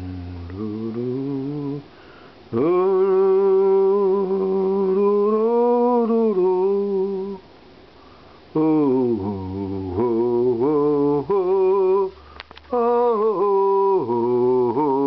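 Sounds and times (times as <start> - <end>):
person singing long held notes: 0.0 - 1.9, 2.5 - 7.4, 8.5 - 15.0.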